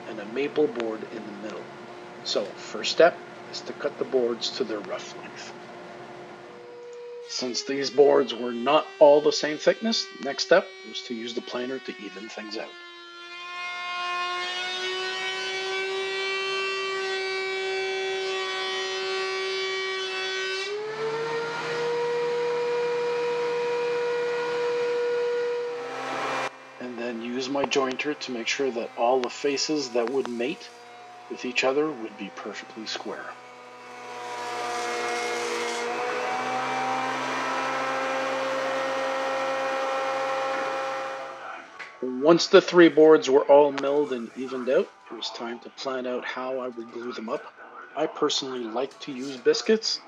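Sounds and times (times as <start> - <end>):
thickness planer motor whining: 0.0 - 42.1.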